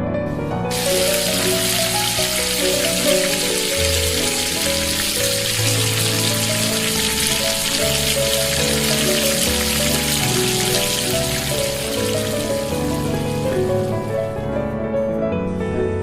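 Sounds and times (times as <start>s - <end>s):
background music: 0.3s - 16.0s
food sizzling in a pan: 0.7s - 14.3s.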